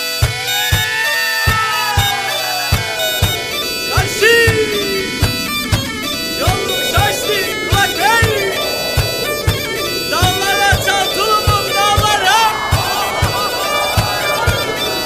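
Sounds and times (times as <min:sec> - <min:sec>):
ornamented wind instrument melody: 0:00.0 - 0:15.0
steady drum beat: 0:00.0 - 0:15.0.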